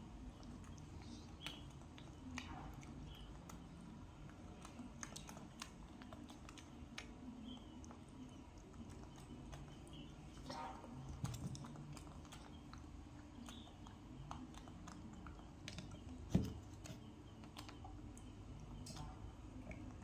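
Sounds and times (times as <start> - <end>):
faint chewing: 0.0 - 20.0.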